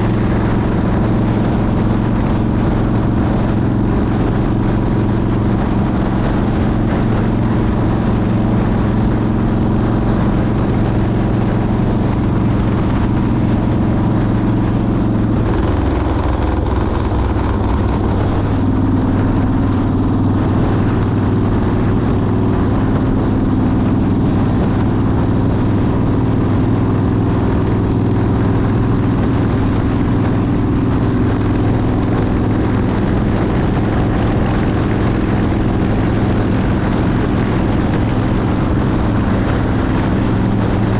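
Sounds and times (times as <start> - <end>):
motorcycle engine running: 0.0 - 40.9
rushing noise: 0.0 - 40.9.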